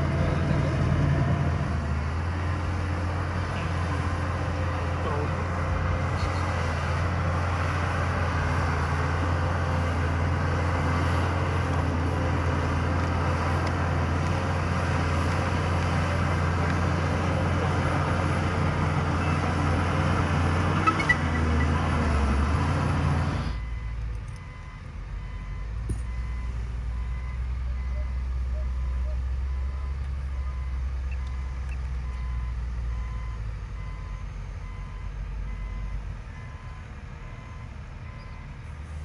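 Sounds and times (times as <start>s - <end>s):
heavy diesel machinery running: 0.0s - 39.0s.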